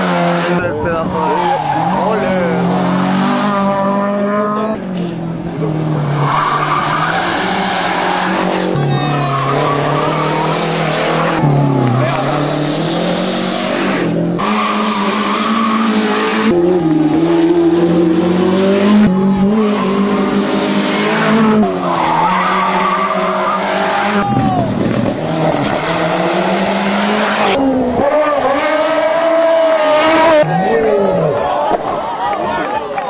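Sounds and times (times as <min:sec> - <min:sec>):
race car engine revving: 0:00.0 - 0:31.4.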